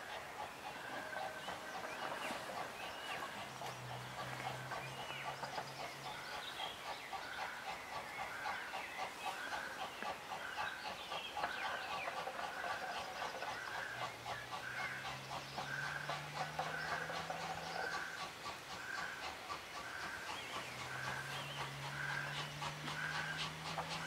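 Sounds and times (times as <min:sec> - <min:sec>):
birds twittering: 0:00.0 - 0:24.0.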